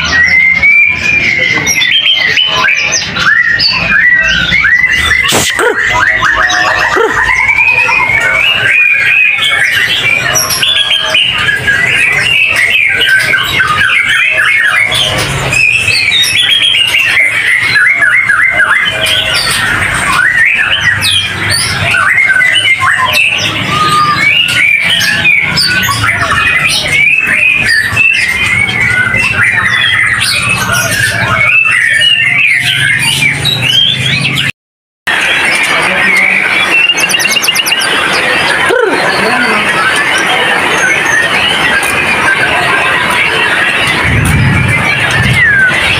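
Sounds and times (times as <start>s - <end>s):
birds whistling and chirping: 0.0s - 34.5s, 35.1s - 45.9s.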